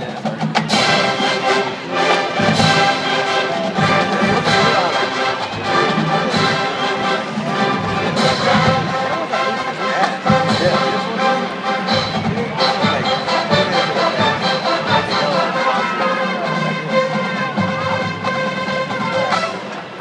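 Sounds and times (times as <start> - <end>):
brass chords: 0.0 - 20.0.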